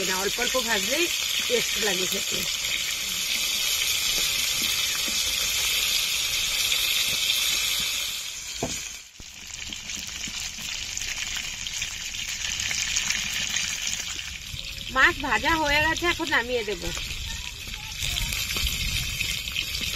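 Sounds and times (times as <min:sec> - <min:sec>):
fish sizzling in hot oil: 0:00.0 - 0:19.9.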